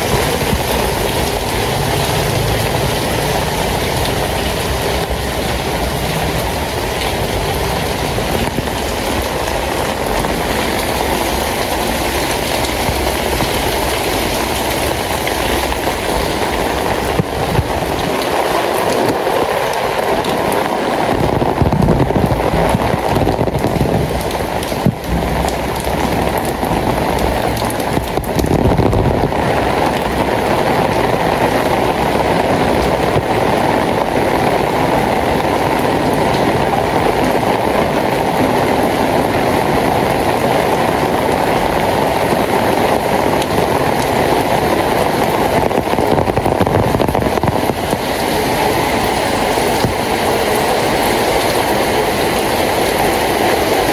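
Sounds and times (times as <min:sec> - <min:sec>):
heavy rainfall: 0:00.0 - 0:53.9.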